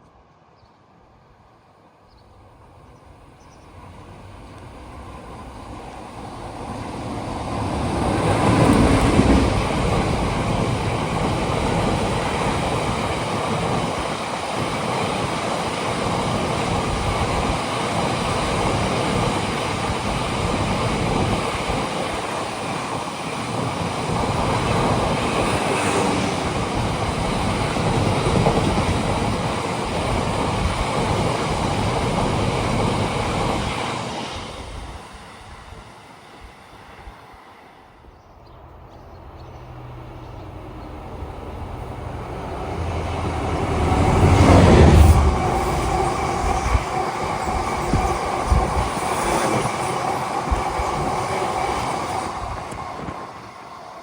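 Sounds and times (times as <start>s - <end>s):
train wheels rumbling on rail: 2.4s - 54.0s.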